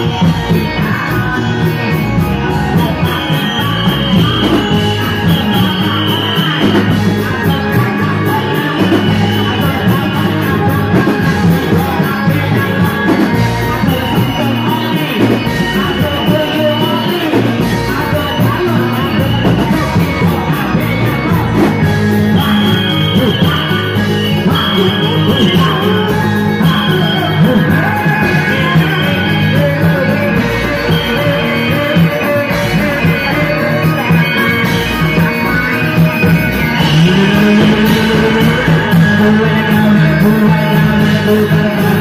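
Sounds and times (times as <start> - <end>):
traditional music with singing: 0.0 - 42.0.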